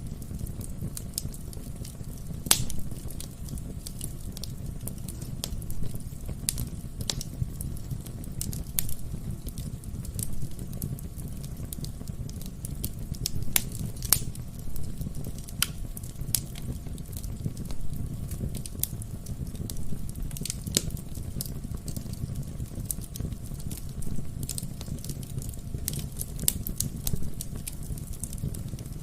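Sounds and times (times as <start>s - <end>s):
firewood crackling and popping: 0.0s - 29.0s
low rumble of flames: 0.0s - 29.0s.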